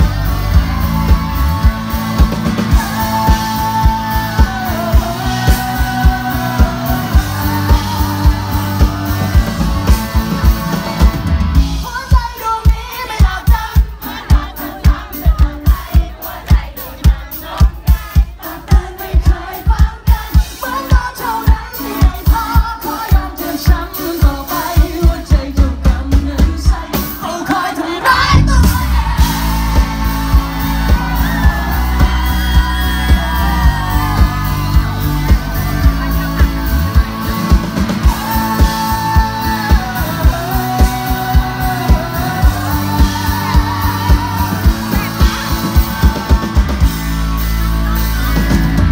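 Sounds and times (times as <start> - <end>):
man singing: 0.0 - 16.0, 20.6 - 46.9
rock band through loudspeakers: 0.0 - 48.9
steady drum beat: 0.0 - 48.9.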